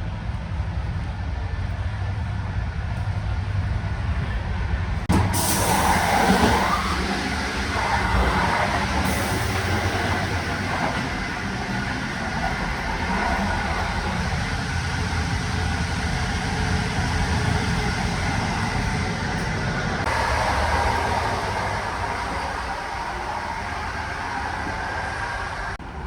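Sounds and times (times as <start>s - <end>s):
train rumble with wheel noise: 0.0s - 26.0s.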